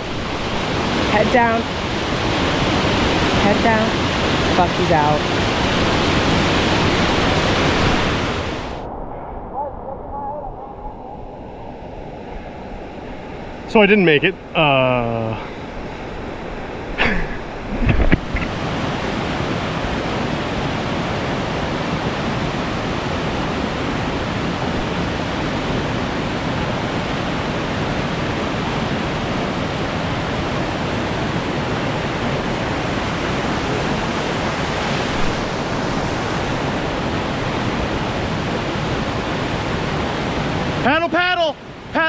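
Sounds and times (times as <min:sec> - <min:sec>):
whitewater rapids roaring: 0:00.0 - 0:08.8, 0:13.0 - 0:42.0.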